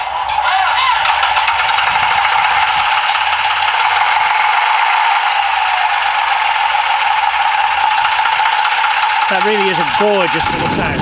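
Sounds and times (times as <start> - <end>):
diesel engine idling through small speaker: 0.0 - 11.0.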